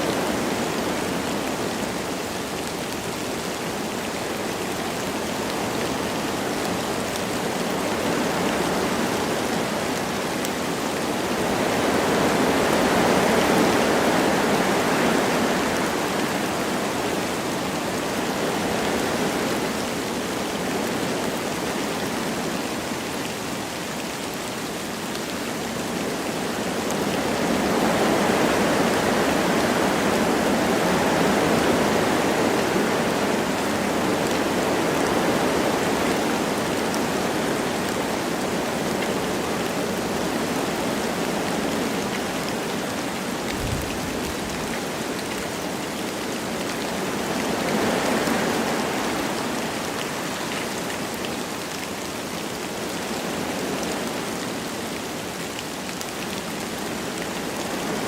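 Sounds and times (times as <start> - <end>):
light rain falling: 0.0 - 58.0
wind through forest trees: 0.0 - 58.0.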